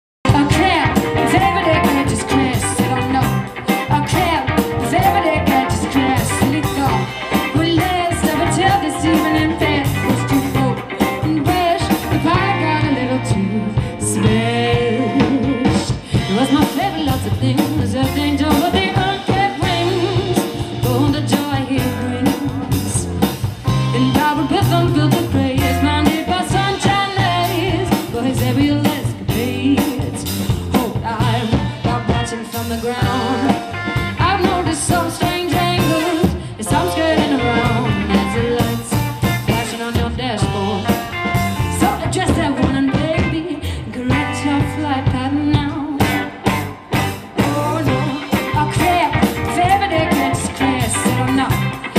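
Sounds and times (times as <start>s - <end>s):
live band playing: 0.2s - 51.9s
woman singing: 0.3s - 51.9s.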